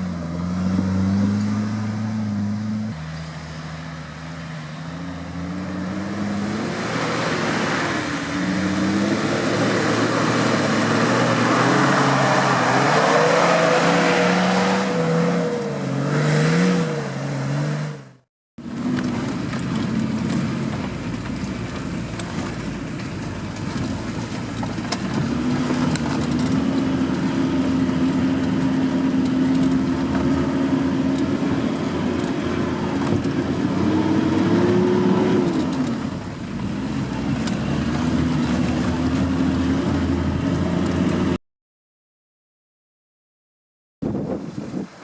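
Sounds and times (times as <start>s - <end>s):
off-road vehicle engine revving: 0.0s - 41.4s.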